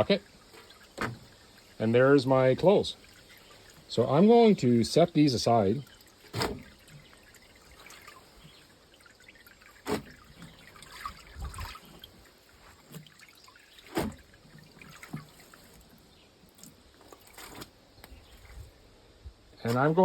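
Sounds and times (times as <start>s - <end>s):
water dripping off wet clothes: 0.0s - 18.6s.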